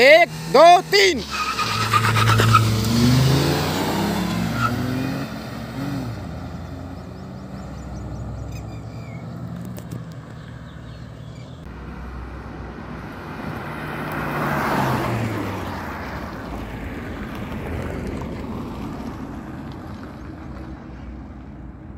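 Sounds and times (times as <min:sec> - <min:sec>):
cars racing past: 0:00.0 - 0:21.8.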